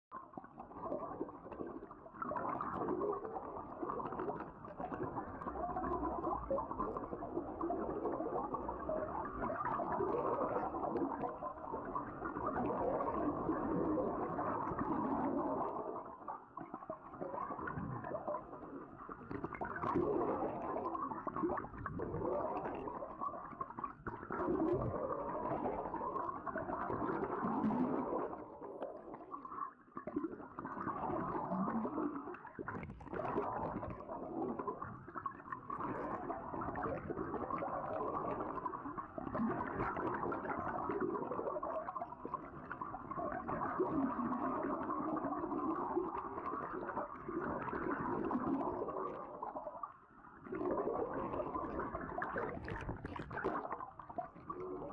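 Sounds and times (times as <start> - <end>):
underwater rush and gurgle: 0.1 - 54.9.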